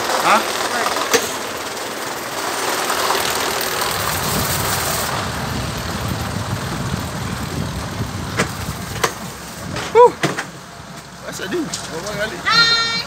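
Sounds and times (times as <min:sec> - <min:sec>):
coaster cart rumbling on rail: 0:00.0 - 0:13.0.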